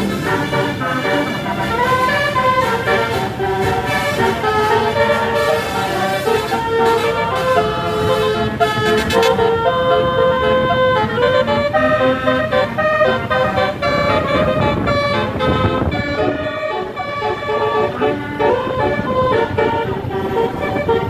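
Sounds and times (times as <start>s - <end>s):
bus horn melody: 0.0s - 21.0s
moving bus rumble: 0.0s - 21.0s.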